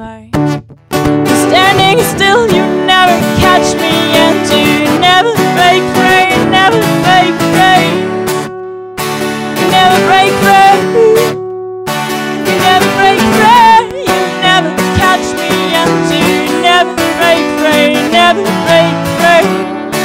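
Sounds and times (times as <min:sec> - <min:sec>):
woman singing: 0:00.0 - 0:00.5, 0:01.3 - 0:08.3, 0:09.5 - 0:11.4, 0:12.3 - 0:20.0
acoustic guitar: 0:00.0 - 0:20.0.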